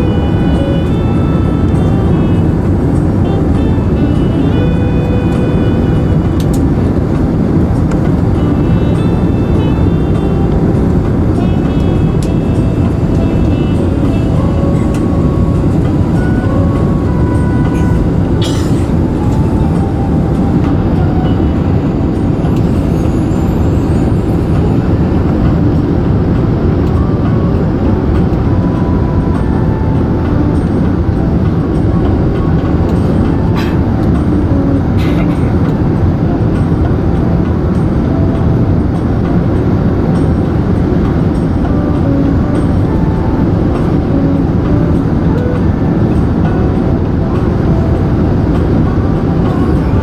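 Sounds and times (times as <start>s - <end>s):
airliner low rumble: 0.0s - 50.0s.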